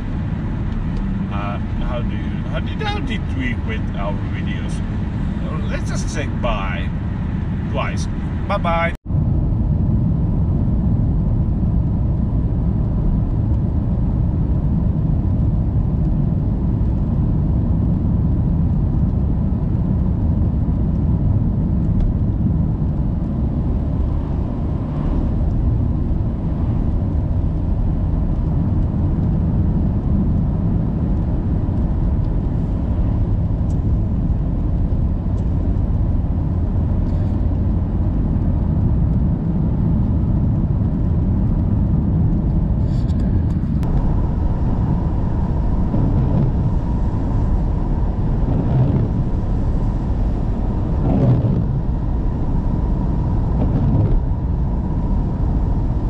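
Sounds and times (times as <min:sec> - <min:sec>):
car driving low rumble: 0:00.0 - 0:56.0.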